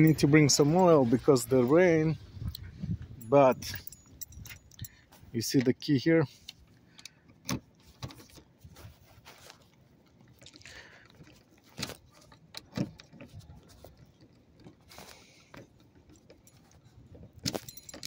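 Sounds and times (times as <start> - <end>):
car keys jangling: 0.0 - 8.4, 10.1 - 18.0.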